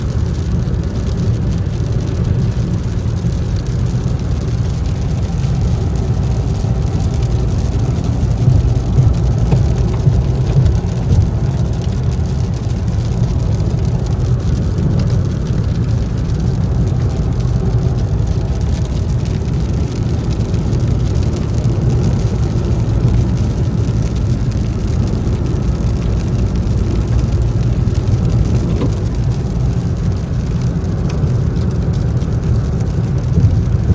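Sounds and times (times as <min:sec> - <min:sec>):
rain on car body: 0:00.0 - 0:33.9
road and wind noise in car cabin: 0:00.0 - 0:33.9.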